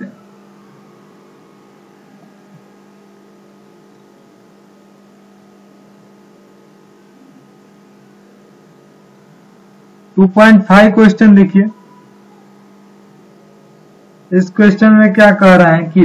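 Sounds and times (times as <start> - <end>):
faint steady tones: 0.0 - 16.0
mains hum: 0.0 - 16.0.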